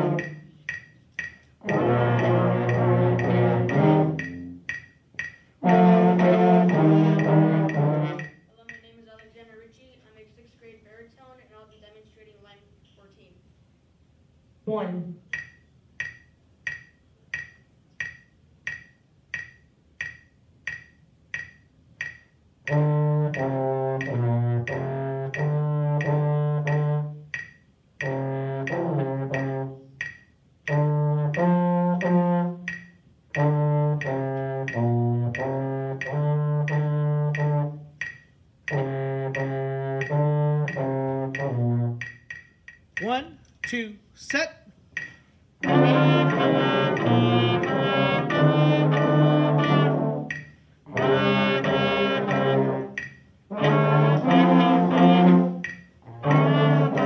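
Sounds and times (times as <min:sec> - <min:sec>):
accompaniment music with bass line: 0:00.0 - 0:08.6, 0:15.0 - 0:57.0
metronome clicking: 0:00.0 - 0:10.2, 0:15.2 - 0:57.0.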